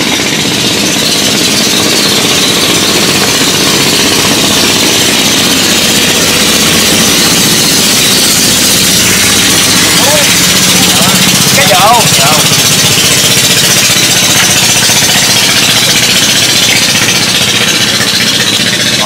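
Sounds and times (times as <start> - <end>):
small boat engine running: 0.0 - 19.0.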